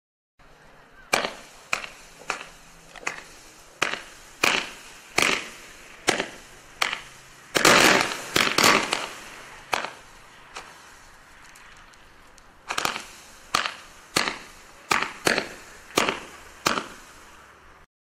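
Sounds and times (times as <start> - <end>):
firework pops with echo: 1.1 - 10.8, 11.4 - 17.2.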